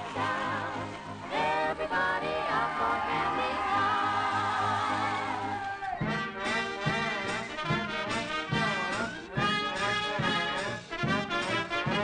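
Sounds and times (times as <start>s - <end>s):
brass orchestral cartoon music: 0.0s - 12.0s.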